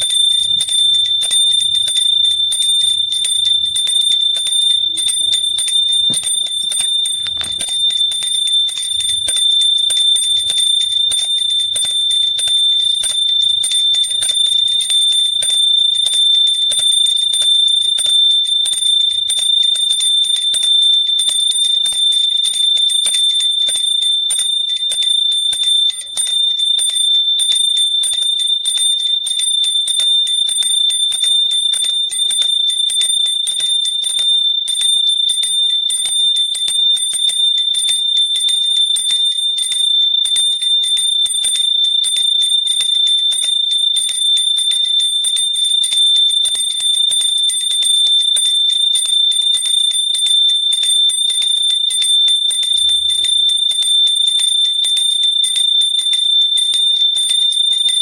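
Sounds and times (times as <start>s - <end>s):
hand bell ringing: 0.0s - 58.0s.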